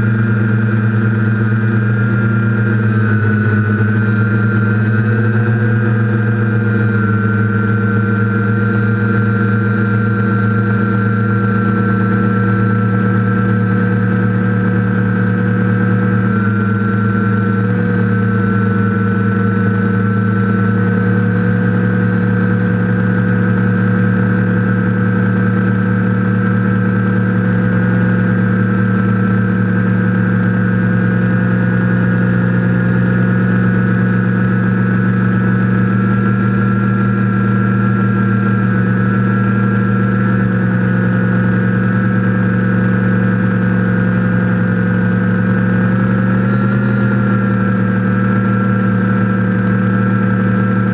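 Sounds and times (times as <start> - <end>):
drone motors buzzing: 0.0 - 50.9.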